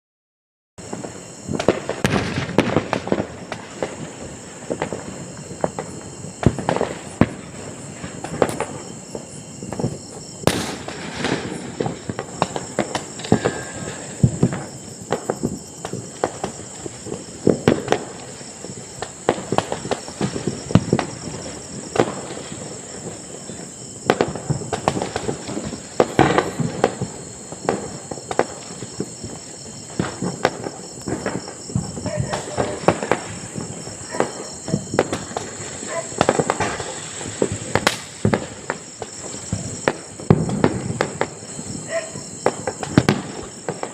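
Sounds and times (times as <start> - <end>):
distant fireworks banging and crackling: 0.8 - 43.9.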